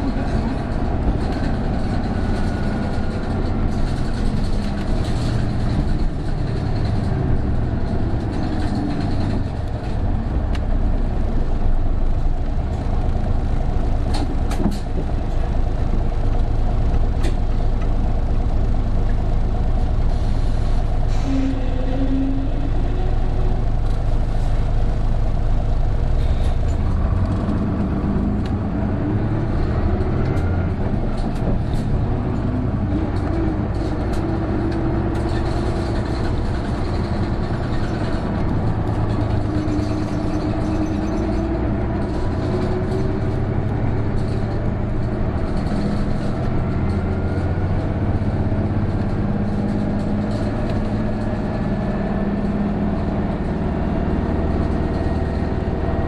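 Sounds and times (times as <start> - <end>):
bus diesel engine under load: 0.0 - 56.0.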